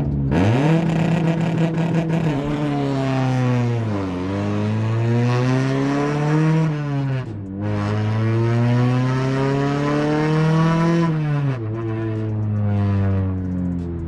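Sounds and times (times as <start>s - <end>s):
car engine revving and accelerating: 0.0s - 14.0s.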